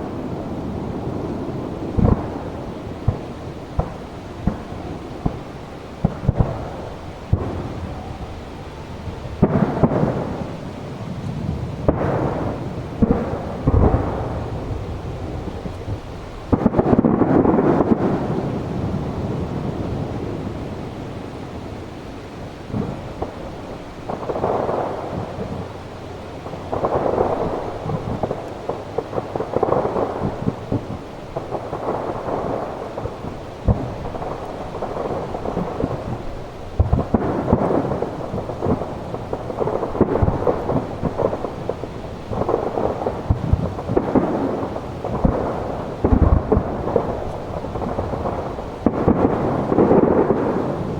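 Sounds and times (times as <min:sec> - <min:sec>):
firework booms: 0:00.0 - 0:50.9
firework cracks and crackle: 0:00.0 - 0:50.9
rolling rumble: 0:00.0 - 0:50.9.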